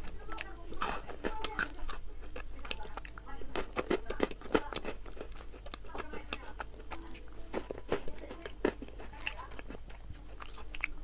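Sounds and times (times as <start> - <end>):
crisp candy crunching chewing: 0.0 - 11.0.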